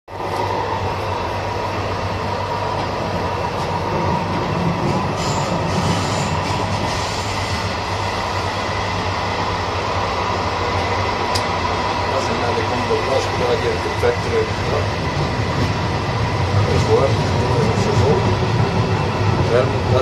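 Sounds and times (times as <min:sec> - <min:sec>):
train rumbling from inside carriage: 0:00.1 - 0:20.0.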